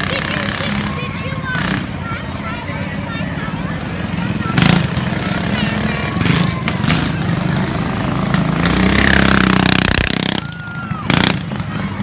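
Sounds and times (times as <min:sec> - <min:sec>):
small petrol engines running: 0:00.0 - 0:12.0.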